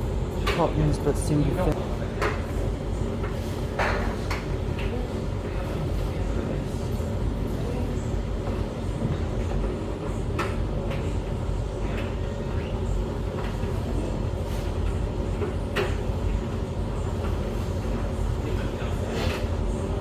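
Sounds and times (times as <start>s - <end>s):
dryer drum rumble: 0.0s - 20.0s.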